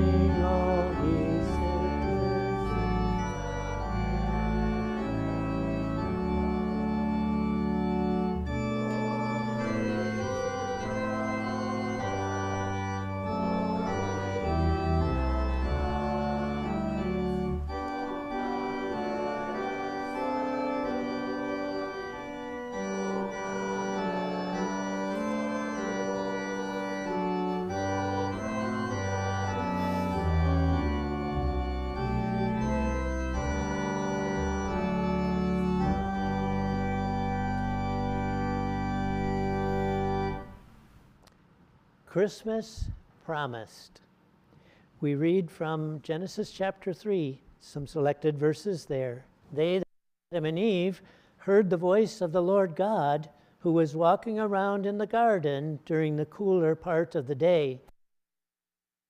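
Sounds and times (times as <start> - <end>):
church organ playing a hymn: 0.0 - 40.8, 45.0 - 49.8, 50.4 - 57.8.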